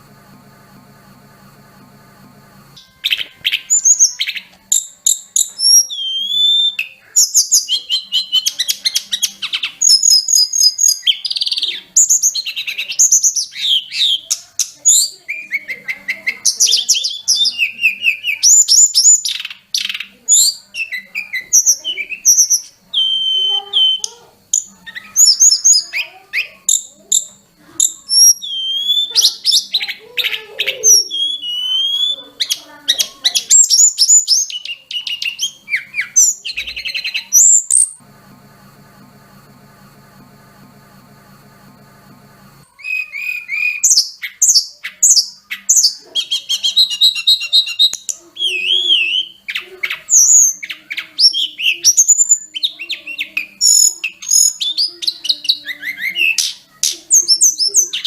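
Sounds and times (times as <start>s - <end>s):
bird singing varied song: 2.8s - 38.0s, 42.7s - 58.0s.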